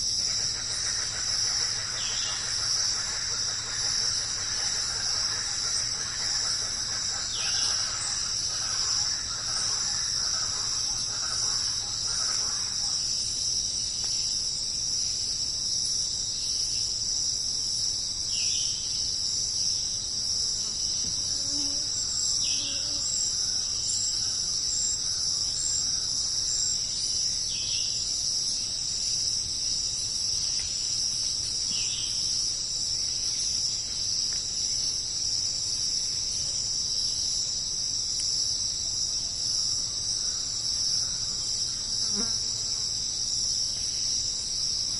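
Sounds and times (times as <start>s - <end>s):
insects chirring chorus: 0.0s - 44.9s.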